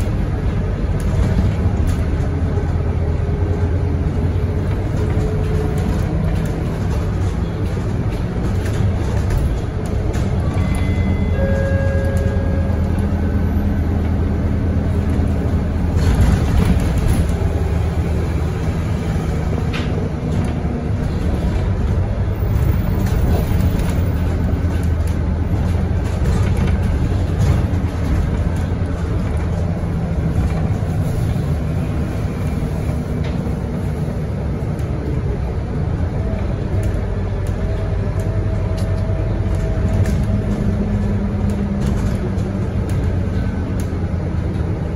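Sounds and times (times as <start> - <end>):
bus engine droning: 0.0 - 44.9
road noise: 0.0 - 44.9.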